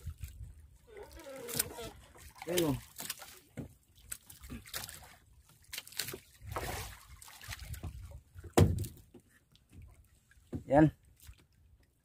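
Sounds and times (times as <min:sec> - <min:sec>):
water lapping against a hull: 0:00.0 - 0:12.0.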